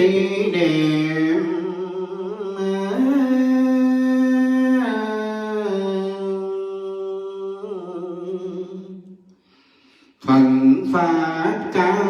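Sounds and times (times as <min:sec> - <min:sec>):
person singing with vibrato: 0:00.0 - 0:09.3, 0:10.0 - 0:12.0.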